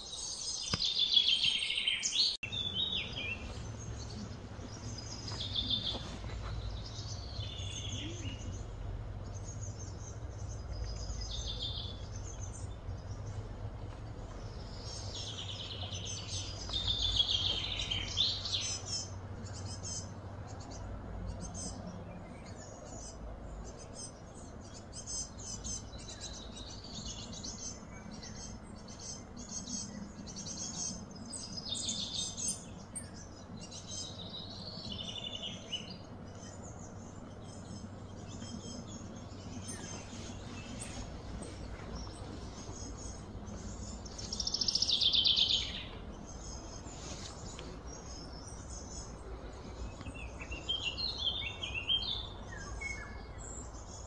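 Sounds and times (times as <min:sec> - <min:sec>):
birds chirping: 0:00.0 - 0:54.0
steady low rumble: 0:02.4 - 0:54.0.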